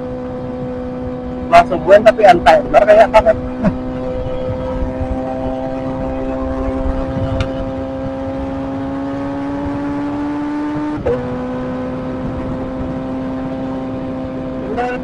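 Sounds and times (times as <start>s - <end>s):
motorcycle engine revving: 0.0s - 15.0s
wind rumbling on microphone: 0.0s - 15.0s.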